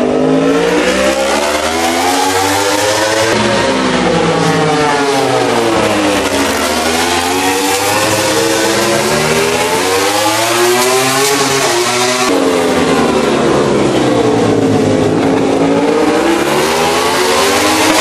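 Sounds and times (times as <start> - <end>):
race motorcycle engine revving: 0.0 - 18.0.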